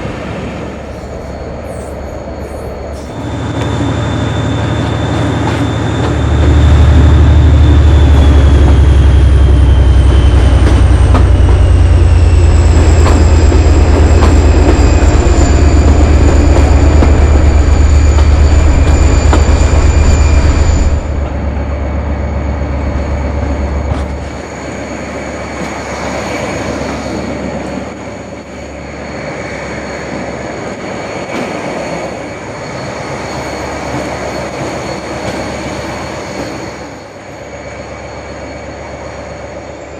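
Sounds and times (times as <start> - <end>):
diesel locomotive engine rumbling: 0.0 - 39.9
rail noise: 0.0 - 39.9.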